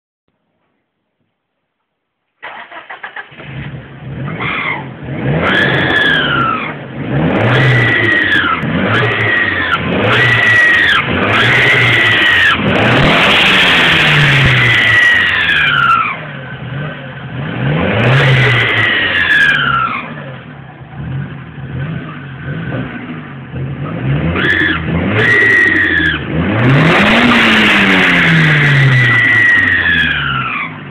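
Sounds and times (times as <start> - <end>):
car engine revving: 2.4 - 30.9.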